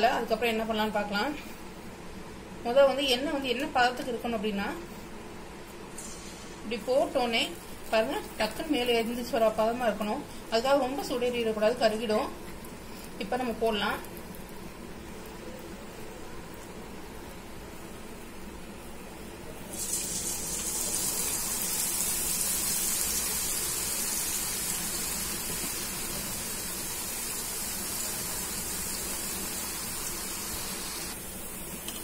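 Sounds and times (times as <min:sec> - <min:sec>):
batter deep-frying in hot oil: 0:06.0 - 0:32.0.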